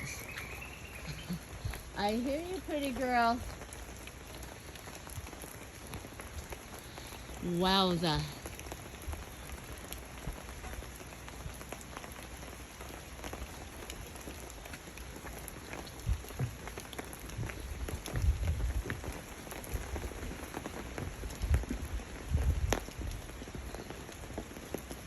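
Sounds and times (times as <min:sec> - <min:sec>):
rain patter on leaves: 0:00.0 - 0:25.0.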